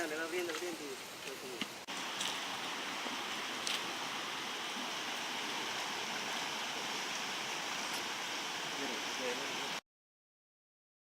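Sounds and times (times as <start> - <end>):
flowing water rushing: 0.0 - 9.8.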